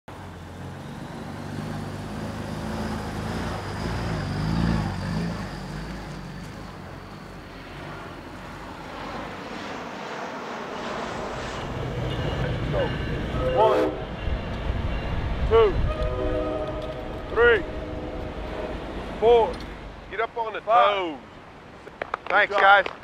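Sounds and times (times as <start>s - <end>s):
traffic noise: 0.0s - 23.0s
heavy truck engine passing: 0.1s - 10.0s, 10.6s - 20.4s.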